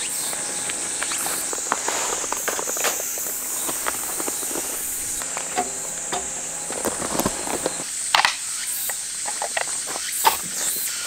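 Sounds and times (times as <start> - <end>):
crickets chirring: 0.0 - 11.0
camping gear clicking and knocking: 0.6 - 10.6.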